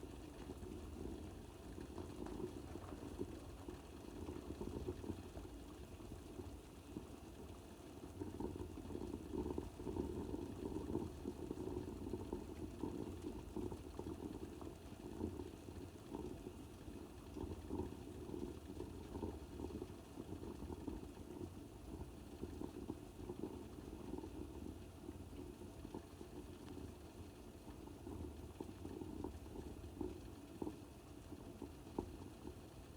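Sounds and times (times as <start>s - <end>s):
water boiling and bubbling: 0.0s - 32.9s.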